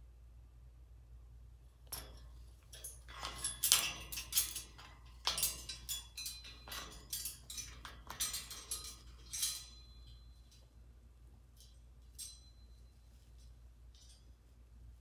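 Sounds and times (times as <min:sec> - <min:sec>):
parrot rustling and clinking in cage: 0:01.9 - 0:14.7.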